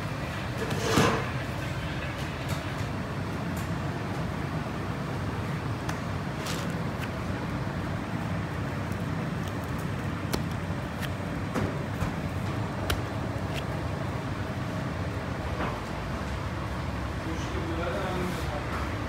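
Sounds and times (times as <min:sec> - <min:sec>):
low rumble of machinery: 0:00.0 - 0:18.2.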